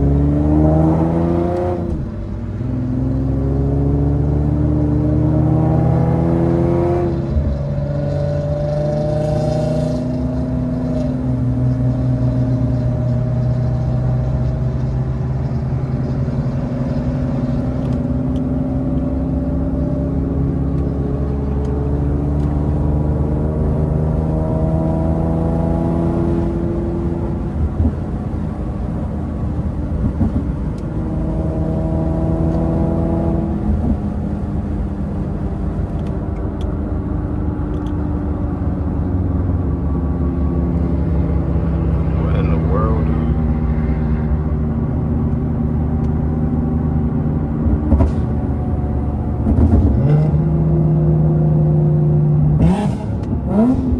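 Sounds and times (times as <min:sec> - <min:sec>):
car engine droning through exhaust: 0:00.0 - 0:53.9.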